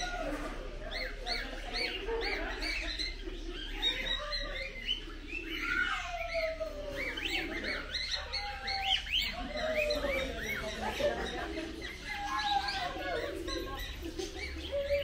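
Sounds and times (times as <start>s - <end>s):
parrots chirping and squawking: 0.0s - 15.0s.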